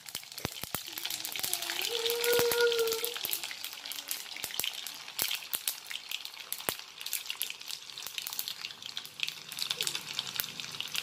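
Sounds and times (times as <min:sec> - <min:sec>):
hot oil sizzling in a wok: 0:00.0 - 0:11.0
sharp crackling pops: 0:00.0 - 0:11.0.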